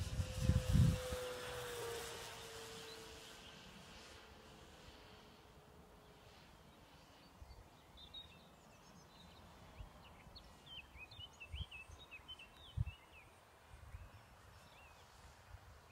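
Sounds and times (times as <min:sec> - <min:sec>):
faint outdoor ambience: 0:00.0 - 0:15.9.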